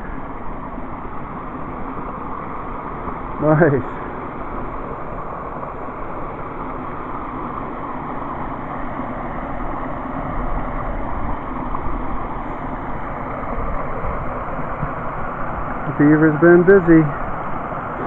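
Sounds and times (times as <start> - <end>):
flowing water rushing: 0.0 - 18.0.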